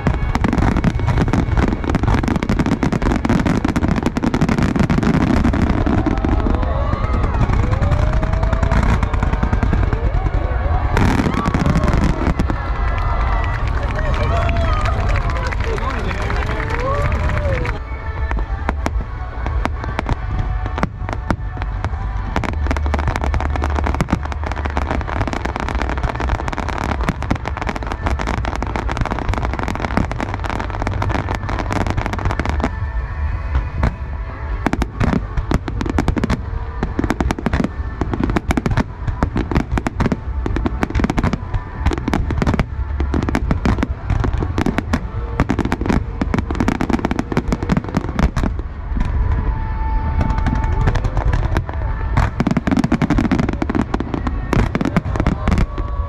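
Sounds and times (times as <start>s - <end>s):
fireworks booming rumble: 0.0s - 56.0s
fireworks crackling bursts: 0.0s - 56.0s
music: 0.0s - 56.0s.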